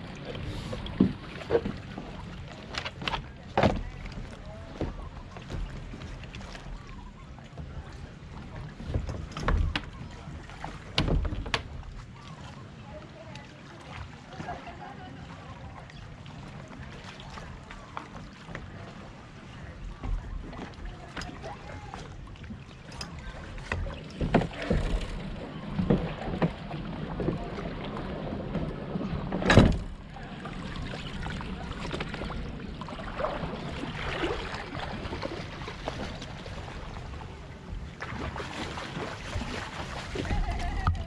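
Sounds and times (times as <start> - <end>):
water sloshing: 0.0 - 41.0.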